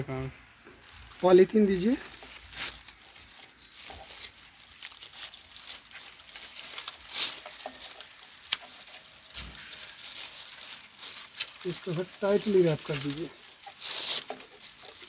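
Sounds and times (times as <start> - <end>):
plastic strip crinkling: 0.8 - 15.0.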